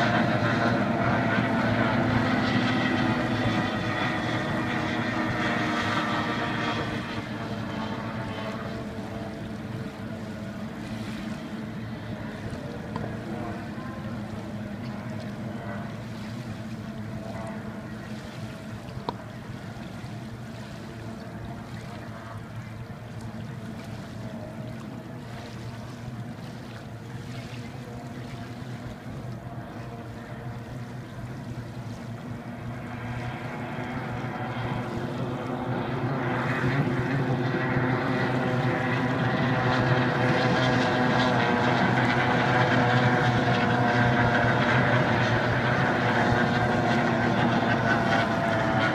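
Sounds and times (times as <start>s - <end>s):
racing boat engines droning: 0.0s - 48.9s.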